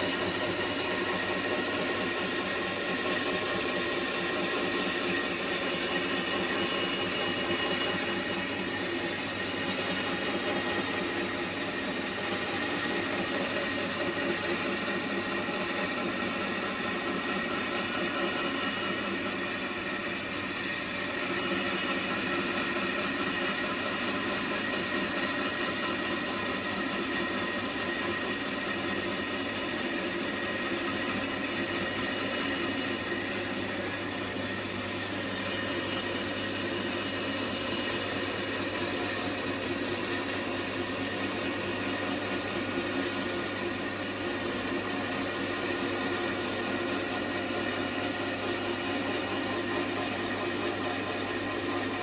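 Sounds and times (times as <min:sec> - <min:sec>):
power tool motor running: 0:00.0 - 0:52.0.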